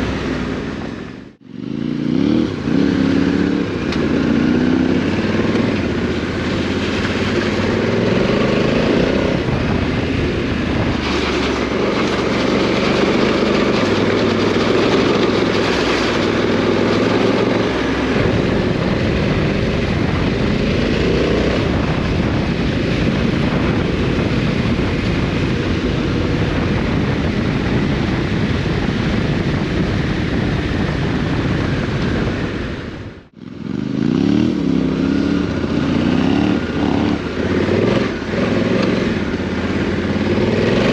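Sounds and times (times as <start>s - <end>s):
motorcycle engine revving: 0.0s - 40.9s
wind rush: 0.0s - 40.9s.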